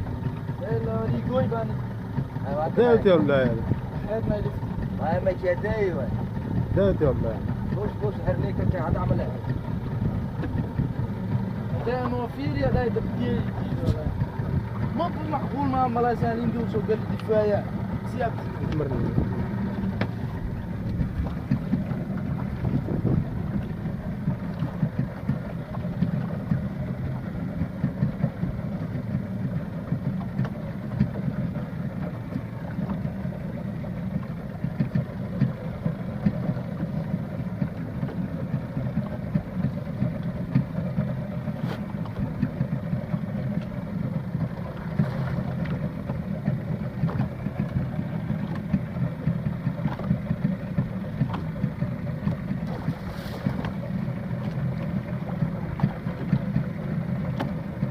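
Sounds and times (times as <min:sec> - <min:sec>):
boat engine humming: 0:00.0 - 0:57.9.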